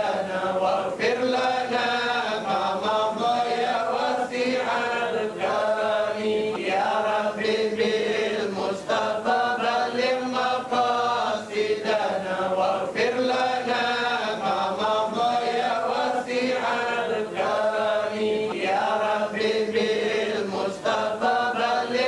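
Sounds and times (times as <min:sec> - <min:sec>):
melodic vocal chanting: 0:00.0 - 0:22.0.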